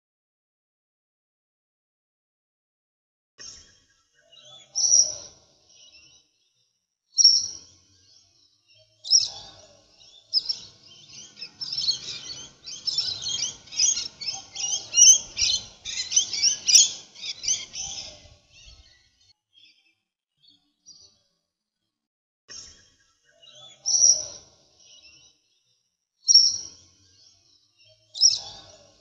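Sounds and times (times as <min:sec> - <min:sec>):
small birds chirping: 0:03.4 - 0:21.2, 0:22.5 - 0:29.0.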